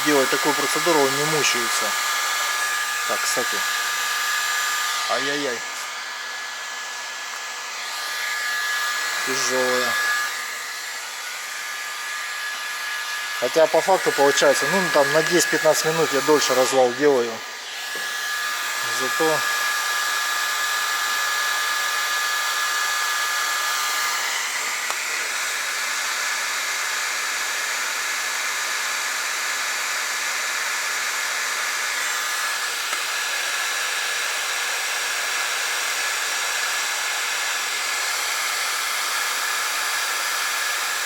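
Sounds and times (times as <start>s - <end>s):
heat gun blowing with hiss: 0.0s - 41.0s.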